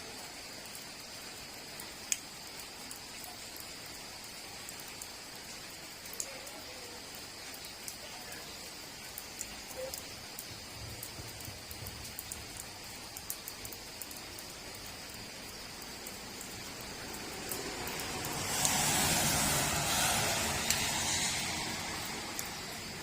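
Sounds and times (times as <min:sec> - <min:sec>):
steady rain falling: 0:00.0 - 0:23.0
sharp drips and taps: 0:01.5 - 0:19.8, 0:20.6 - 0:21.4, 0:22.0 - 0:23.0.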